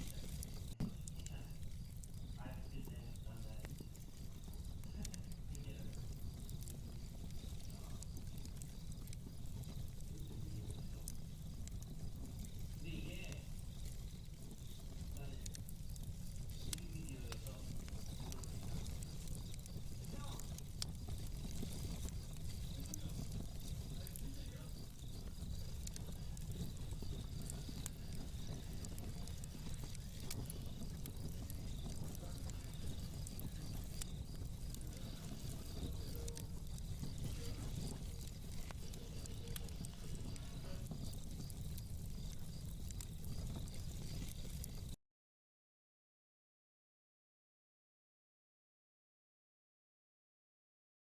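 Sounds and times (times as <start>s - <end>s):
fireplace crackling and popping: 0.0s - 45.0s.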